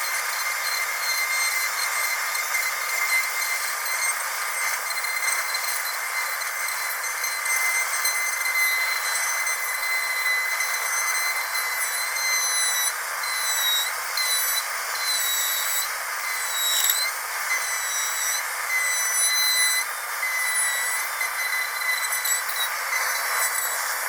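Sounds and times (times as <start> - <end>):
dentist's drill whining: 0.0 - 24.0.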